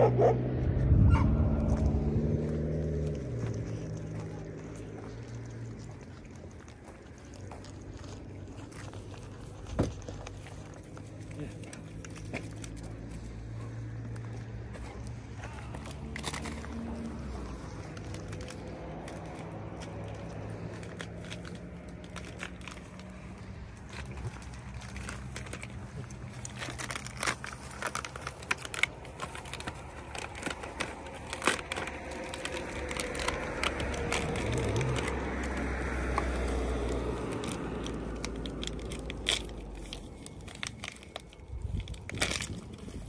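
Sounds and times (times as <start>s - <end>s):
low rumble: 0.0s - 43.0s
food wrapper crinkling and crunching: 1.6s - 43.0s.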